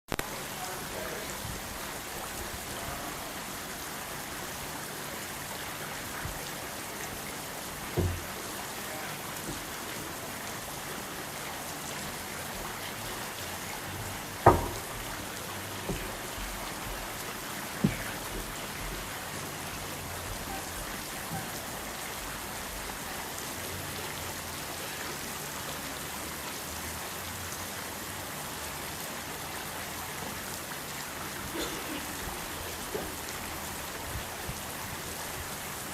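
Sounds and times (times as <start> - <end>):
hiss of water: 0.2 - 35.9.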